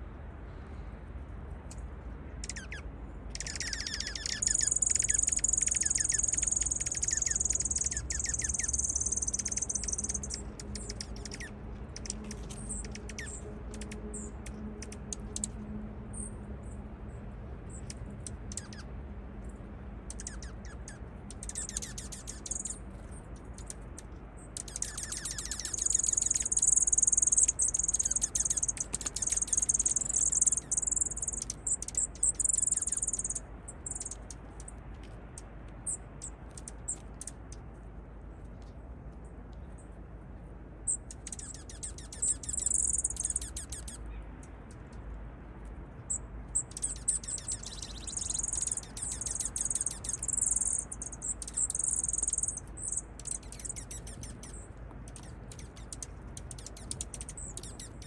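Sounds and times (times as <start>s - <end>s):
songbirds chirping and trilling: 1.7s - 16.9s, 17.6s - 37.8s, 40.8s - 45.1s, 45.9s - 58.0s.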